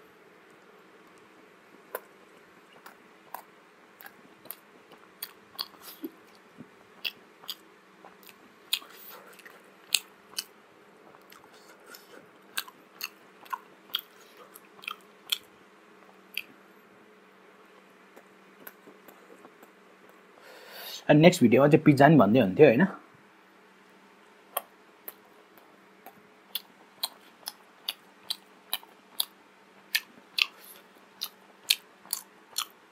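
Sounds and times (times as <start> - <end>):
faint steady hum: 0.0 - 32.9
wet chewing clicks and smacks: 0.4 - 16.6, 18.1 - 20.2, 24.5 - 32.8.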